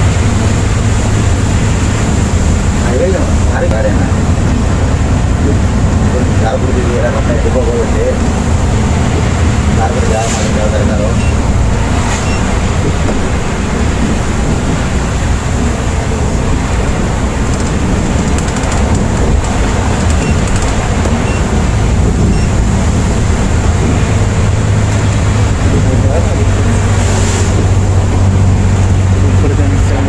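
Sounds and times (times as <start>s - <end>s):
coach engine noise: 0.0s - 30.0s.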